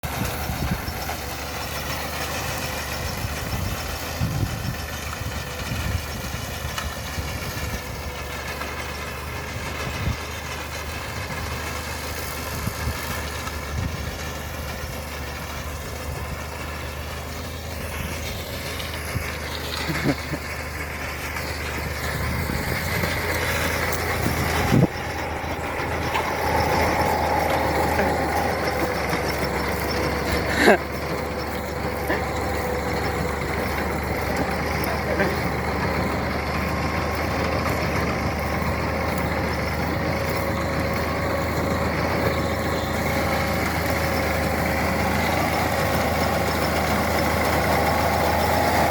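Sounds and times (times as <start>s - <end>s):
harvester engine running: 0.0s - 48.9s.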